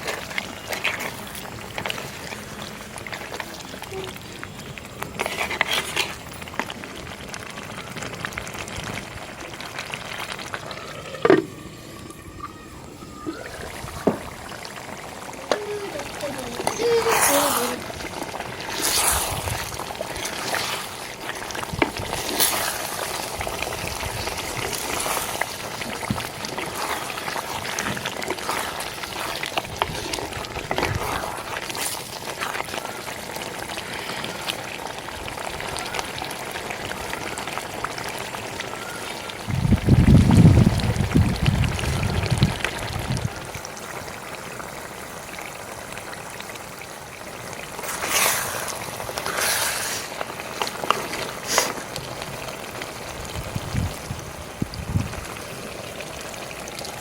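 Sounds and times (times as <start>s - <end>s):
curry bubbling and sizzling: 0.0s - 57.0s.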